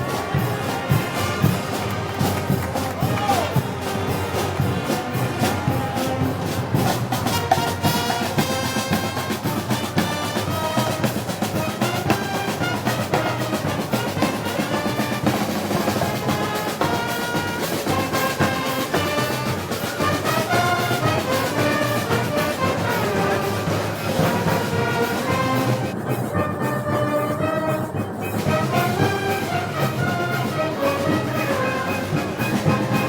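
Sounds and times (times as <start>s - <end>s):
brass and percussion band march: 0.0s - 33.0s.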